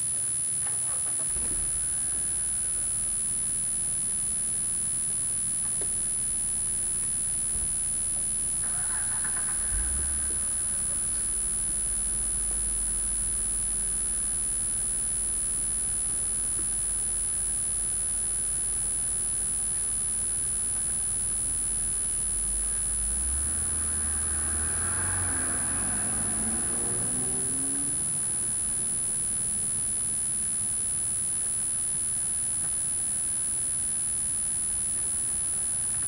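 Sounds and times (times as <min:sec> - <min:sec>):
high-pitched whine: 0:00.0 - 0:36.0.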